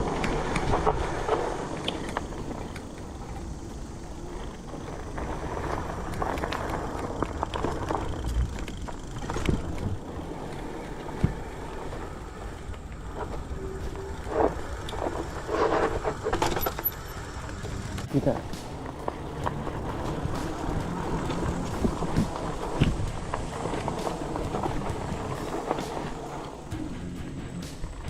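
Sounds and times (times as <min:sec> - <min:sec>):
bike knocks and rattles: 0:00.0 - 0:28.0
tyres rumbling on dirt: 0:00.0 - 0:28.0.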